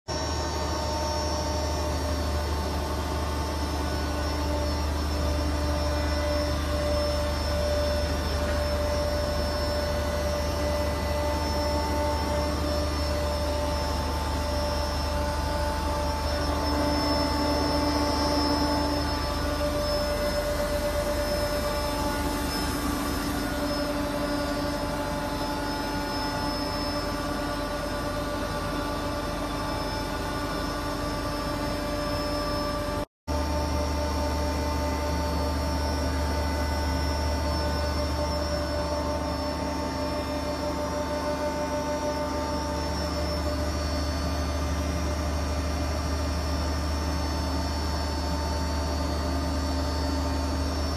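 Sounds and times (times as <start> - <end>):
grinding mill humming and whining: 0.1 - 50.9.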